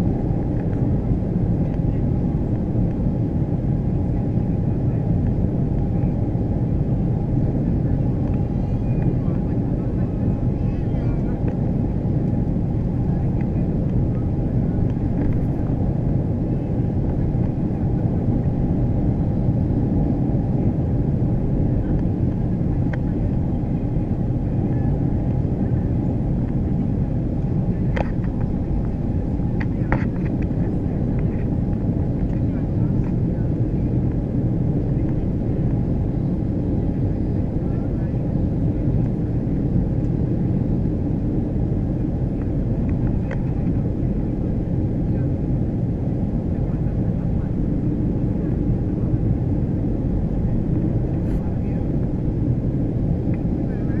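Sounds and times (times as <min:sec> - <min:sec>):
airplane engines: 0:00.0 - 0:54.0.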